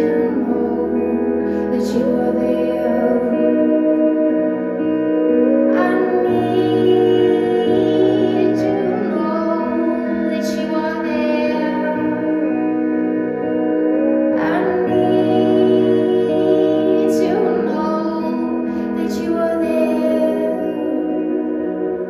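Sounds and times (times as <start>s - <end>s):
electric guitar: 0.0s - 22.0s
woman singing: 0.0s - 22.0s.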